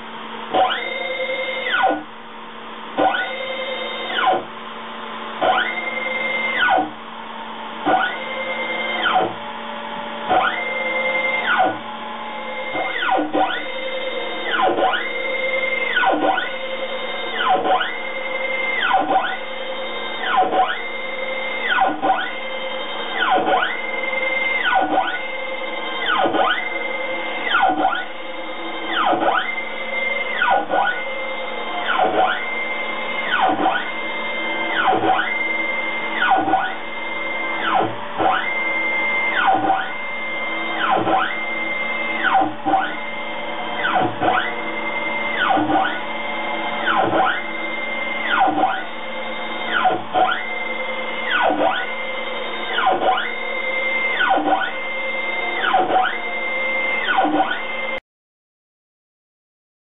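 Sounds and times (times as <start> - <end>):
stepper motors whining: 0.0 - 2.1, 2.7 - 58.0.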